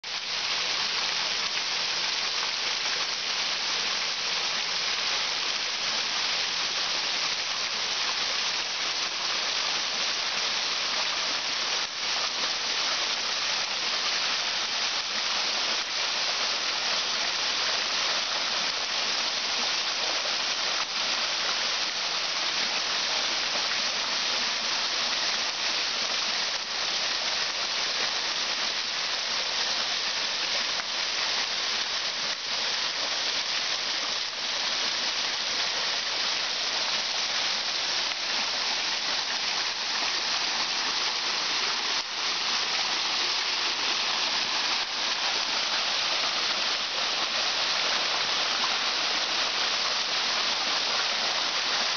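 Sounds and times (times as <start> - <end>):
waterfall splashing over rocks: 0.0 - 51.9.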